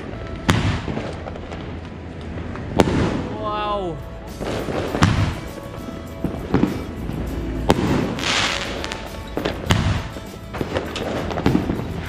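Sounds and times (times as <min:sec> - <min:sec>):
fireworks bangs: 0:00.0 - 0:03.6, 0:04.3 - 0:12.0
crackle of sparks: 0:00.0 - 0:12.0.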